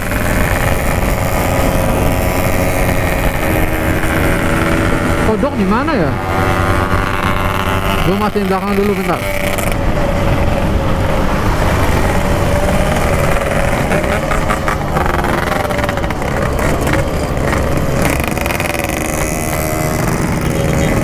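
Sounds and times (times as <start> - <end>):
motorcycle exhaust running: 0.0 - 21.0.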